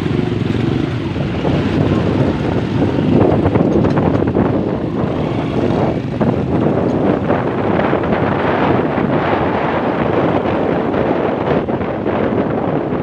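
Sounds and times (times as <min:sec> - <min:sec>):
motorcycle engine: 0:00.0 - 0:13.0
street traffic: 0:00.0 - 0:13.0
wind buffeting microphone: 0:00.0 - 0:13.0.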